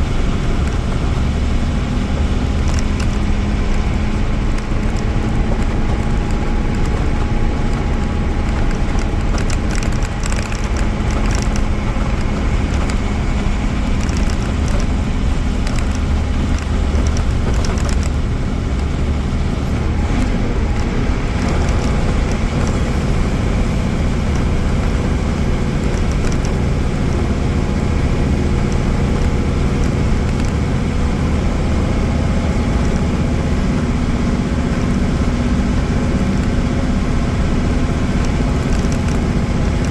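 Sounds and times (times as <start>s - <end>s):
bus diesel engine running: 0.0s - 39.9s
light rattles: 0.0s - 39.9s.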